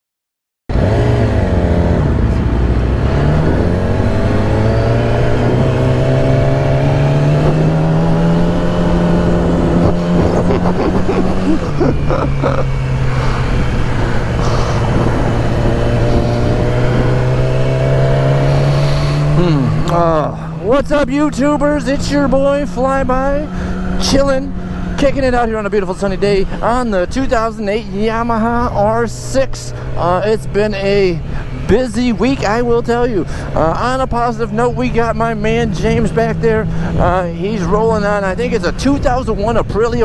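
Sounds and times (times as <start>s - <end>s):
motorbike engine accelerating: 0.7s - 40.0s.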